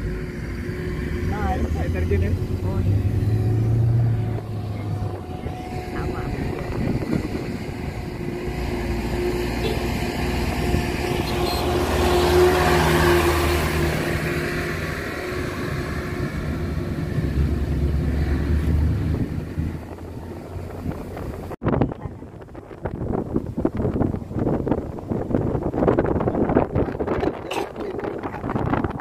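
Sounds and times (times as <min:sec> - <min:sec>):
car road and engine noise: 0:00.0 - 0:29.0
wind buffeting microphone: 0:00.0 - 0:29.0.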